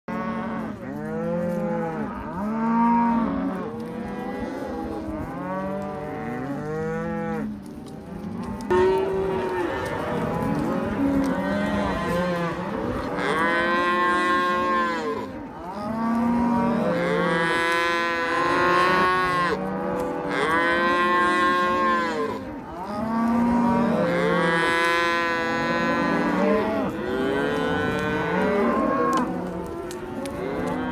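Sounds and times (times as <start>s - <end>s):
herd of cattle mooing: 0.1s - 30.9s.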